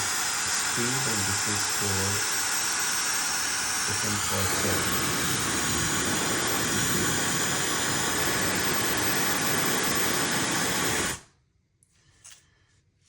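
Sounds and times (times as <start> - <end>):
hair dryer blowing air: 0.0 - 11.3.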